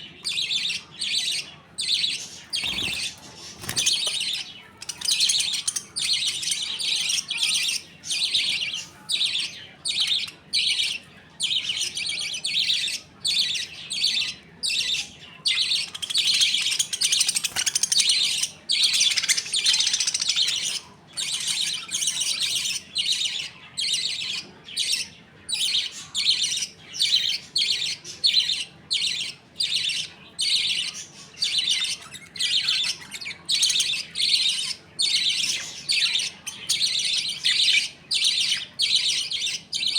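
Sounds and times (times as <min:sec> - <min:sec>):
budgies chattering and chirping: 0:00.0 - 0:39.9.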